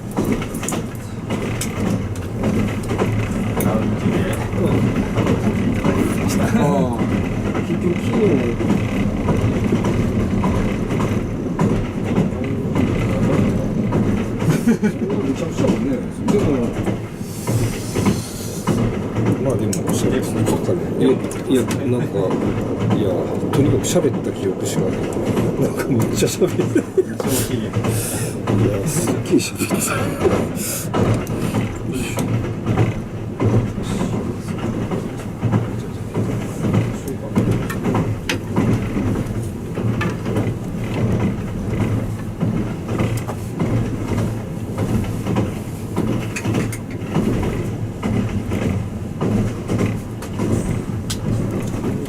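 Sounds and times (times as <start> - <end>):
faint wheel clicks on rails: 0.0 - 52.0
train cabin rumble: 0.0 - 52.0.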